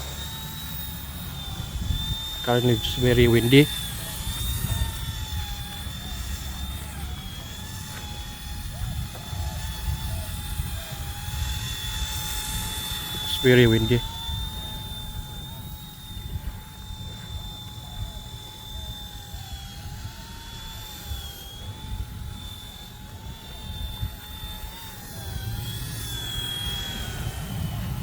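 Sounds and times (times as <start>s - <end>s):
rc helicopter motor whine: 0.0s - 28.0s
wind buffeting microphone: 0.0s - 28.0s.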